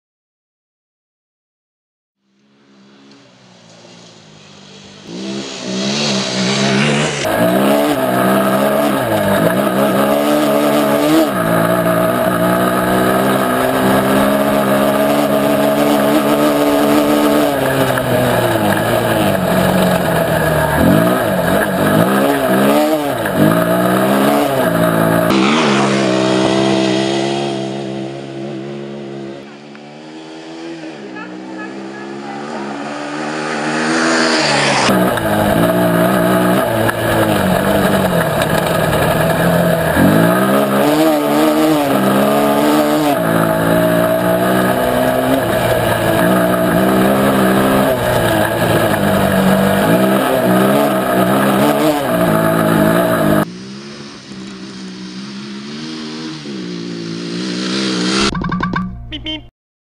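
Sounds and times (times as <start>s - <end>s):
quad engine revving: 5.0s - 58.4s.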